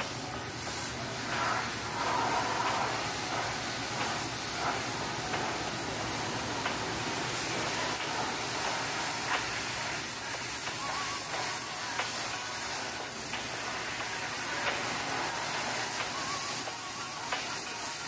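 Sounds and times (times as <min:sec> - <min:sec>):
pressure washer spraying water: 0:00.0 - 0:18.0.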